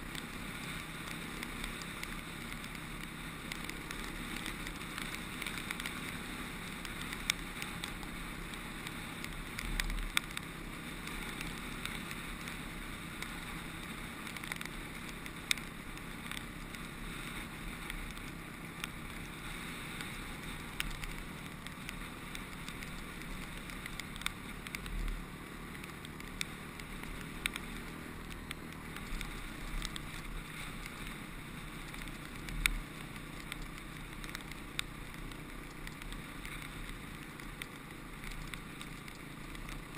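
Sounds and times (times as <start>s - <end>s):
motorcycle engine running: 0.0s - 39.9s
sharp ticks: 0.0s - 39.9s.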